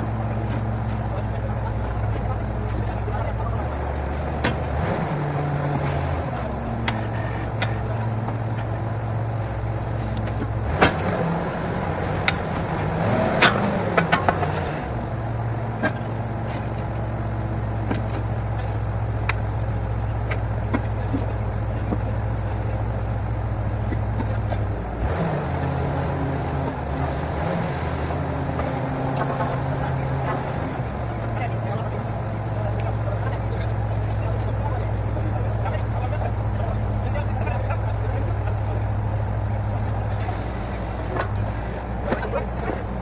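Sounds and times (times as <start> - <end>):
drilling rig engine running: 0.0 - 43.0.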